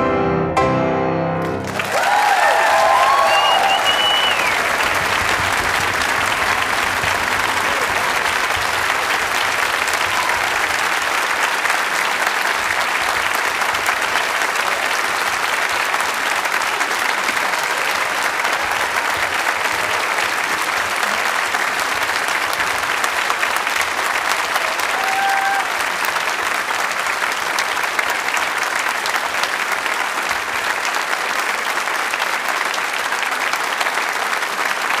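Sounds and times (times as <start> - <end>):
audience applauding: 1.4 - 35.0.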